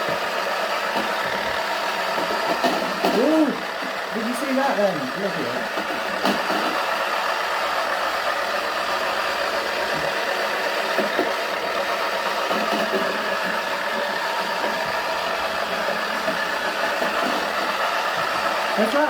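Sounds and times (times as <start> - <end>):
small motor running: 0.0 - 19.0.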